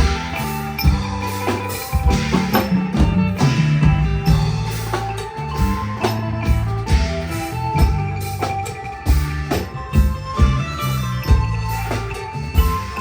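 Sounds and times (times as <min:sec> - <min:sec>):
bass line: 0:00.0 - 0:13.0
drums and percussion beat: 0:00.0 - 0:13.0
folk band playing: 0:00.0 - 0:13.0.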